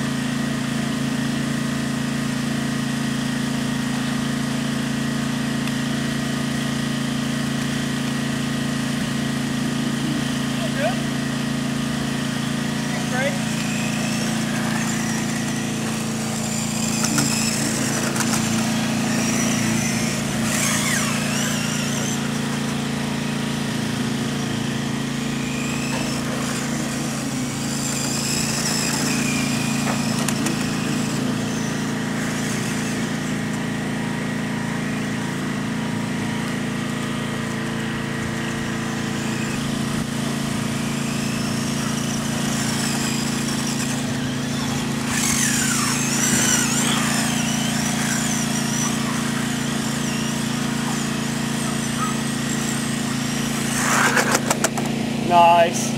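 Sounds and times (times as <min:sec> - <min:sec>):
low mechanical hum: 0:00.0 - 0:55.9
rc car motor whining: 0:00.0 - 0:55.9.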